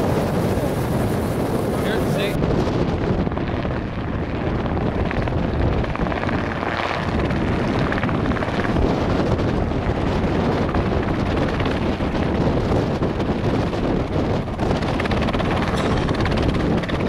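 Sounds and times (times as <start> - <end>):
distant helicopter flying: 0.0 - 17.0
wind buffeting microphone: 0.0 - 17.0.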